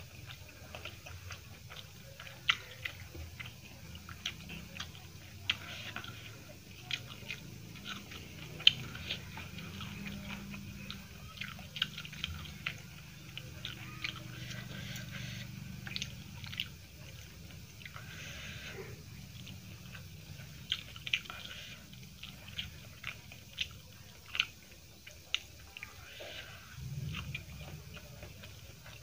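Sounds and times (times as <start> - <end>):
close chewing with mouth clicks: 0.0 - 29.0
low steady hum: 0.0 - 29.0.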